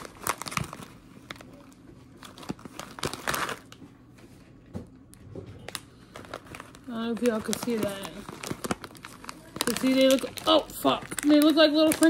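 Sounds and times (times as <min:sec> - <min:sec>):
plastic snack packet crinkling: 0:00.0 - 0:03.8, 0:05.6 - 0:12.0.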